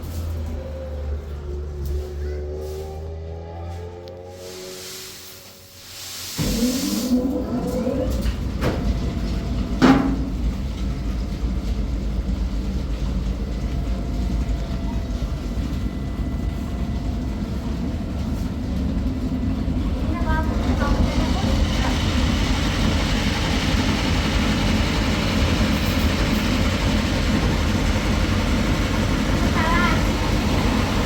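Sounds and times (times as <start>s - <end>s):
heavy machine rumbling and rattling: 0.0s - 4.5s, 6.4s - 31.0s.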